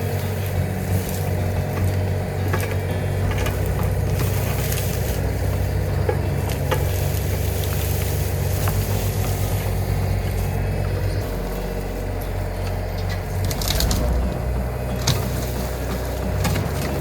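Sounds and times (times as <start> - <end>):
branches cracking: 0.0 - 17.0
excavator engine running: 0.0 - 17.0.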